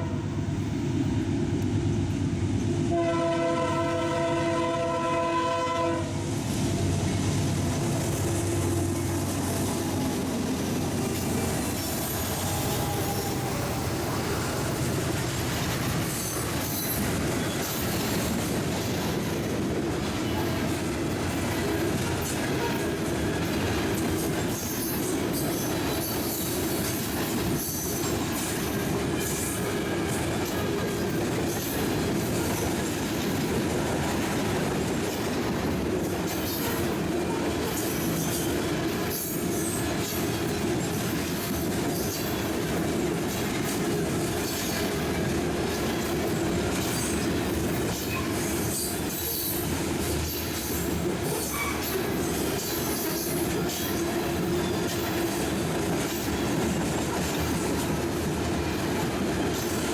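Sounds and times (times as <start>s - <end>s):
train cars rolling on rails: 0.0s - 59.9s.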